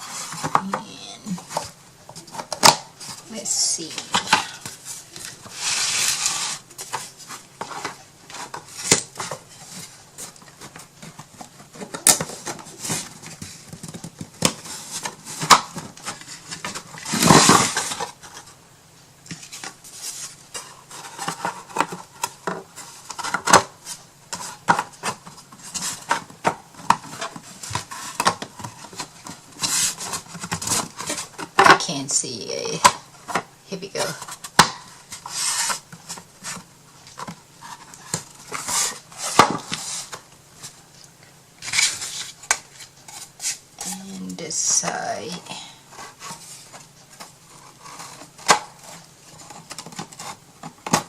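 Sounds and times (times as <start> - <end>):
wooden scrape: 0.0 - 13.8, 19.3 - 31.5, 33.2 - 40.8, 41.6 - 51.0.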